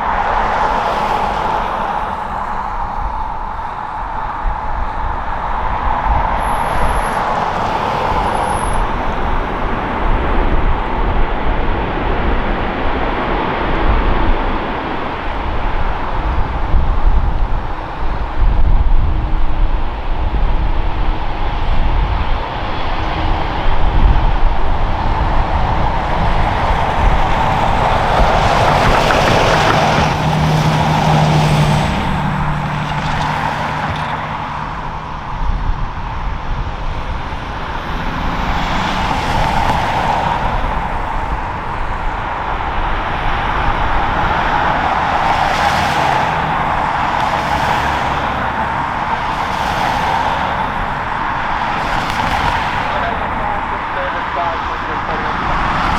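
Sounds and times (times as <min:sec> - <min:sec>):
jet engines roaring: 0:00.0 - 0:55.9
wind buffeting microphone: 0:00.0 - 0:55.9.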